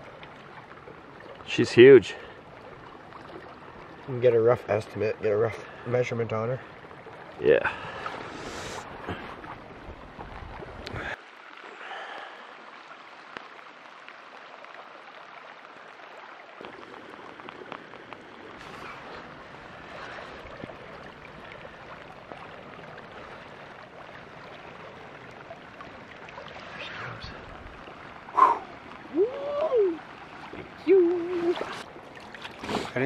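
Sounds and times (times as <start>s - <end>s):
small ticks and splashes: 0.0s - 8.0s, 9.5s - 33.0s
creek water rushing: 0.0s - 33.0s.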